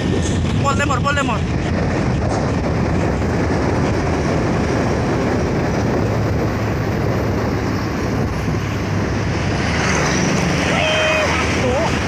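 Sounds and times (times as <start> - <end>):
heavy truck engine rumbling: 0.0 - 12.0
road noise: 0.0 - 12.0.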